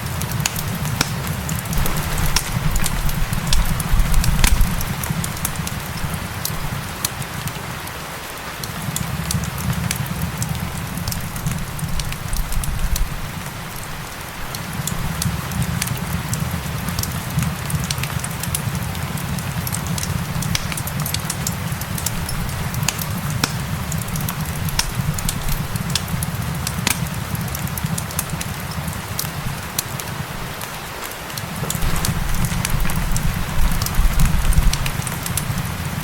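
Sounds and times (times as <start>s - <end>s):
fire crackling and popping: 0.0s - 36.0s
steady rain hiss: 0.0s - 36.0s.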